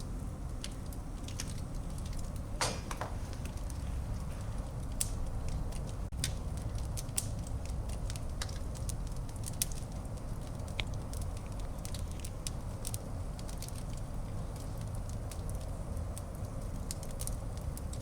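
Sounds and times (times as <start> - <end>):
fire crackling and popping: 0.0 - 18.0
flames rumbling: 0.0 - 18.0.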